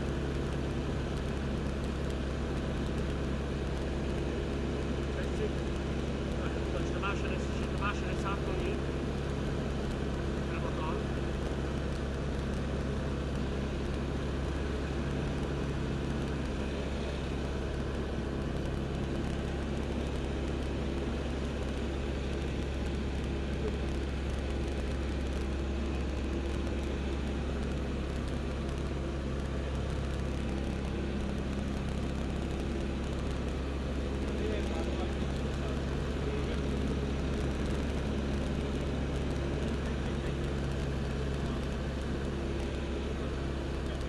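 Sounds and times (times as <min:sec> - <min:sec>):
aircraft engine and propeller drone: 0:00.0 - 0:44.0.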